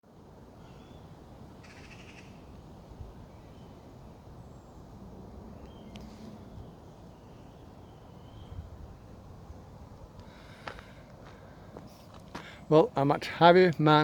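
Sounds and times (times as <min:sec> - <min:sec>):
birds chirping: 0:00.6 - 0:14.0.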